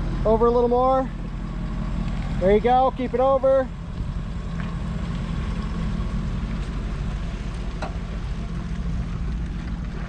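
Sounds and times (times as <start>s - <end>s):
truck engine idling drone: 0.0s - 10.0s.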